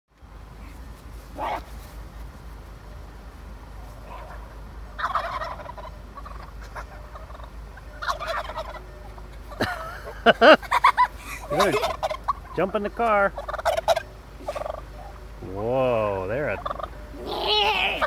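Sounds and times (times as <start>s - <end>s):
turkeys gobbling: 1.4s - 1.7s, 3.7s - 18.0s.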